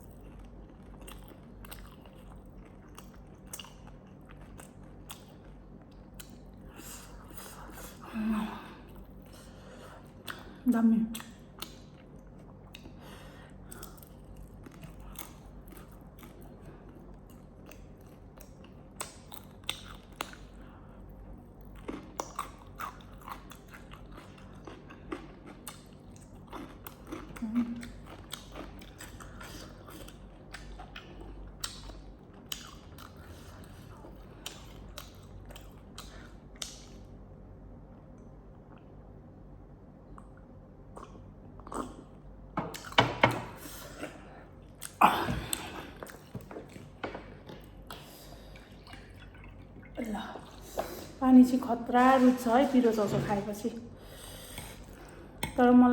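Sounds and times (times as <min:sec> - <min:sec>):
chewing and biting: 0:00.0 - 0:08.0, 0:09.0 - 0:37.1, 0:40.1 - 0:50.7.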